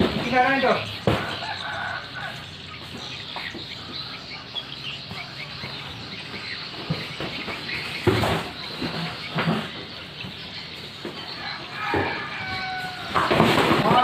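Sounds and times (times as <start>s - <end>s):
small birds chirping: 0.0s - 14.0s
steady background noise: 0.0s - 14.0s.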